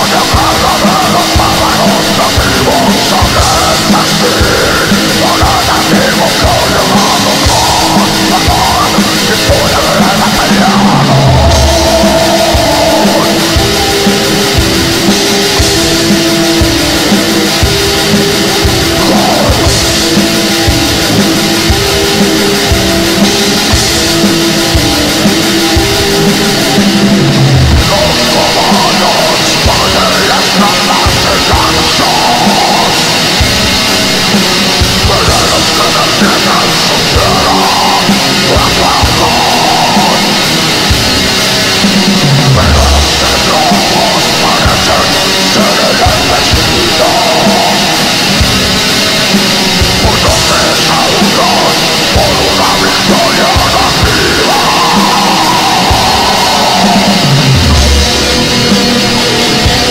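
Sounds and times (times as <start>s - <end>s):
distorted guitars: 0.0s - 59.9s
drum kit playing: 0.0s - 59.9s
vocals: 0.0s - 59.9s.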